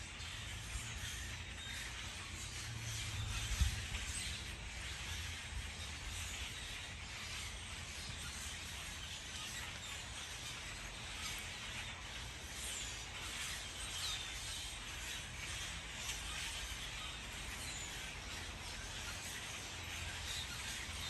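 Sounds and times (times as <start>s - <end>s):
faint bird chirps: 0.0s - 21.0s
steady background hiss: 0.0s - 21.0s.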